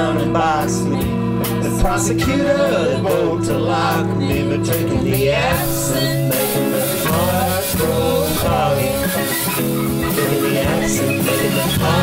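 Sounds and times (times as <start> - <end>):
bass guitar: 0.0 - 12.0
drums: 0.0 - 12.0
electric guitar: 0.0 - 12.0
wavering melodic lead line: 0.0 - 12.0.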